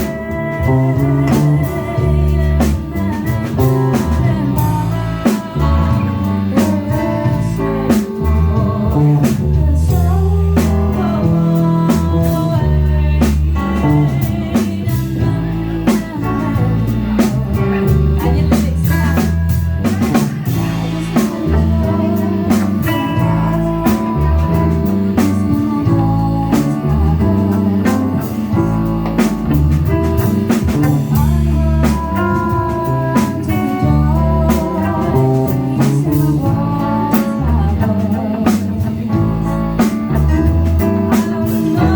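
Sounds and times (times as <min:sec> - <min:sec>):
heavy bass line: 0:00.0 - 0:41.9
live blues band playing: 0:00.0 - 0:41.9.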